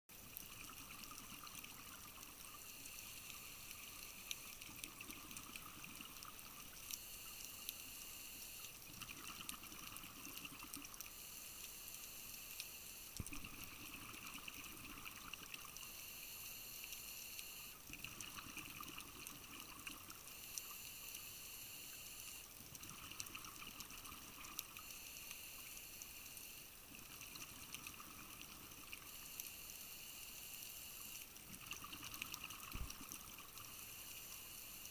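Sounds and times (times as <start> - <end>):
faint clicks: 0.2 - 34.9.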